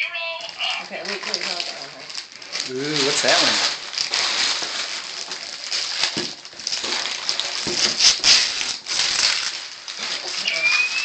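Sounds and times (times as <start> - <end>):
wrapping paper tearing and crinkling: 0.2 - 11.0.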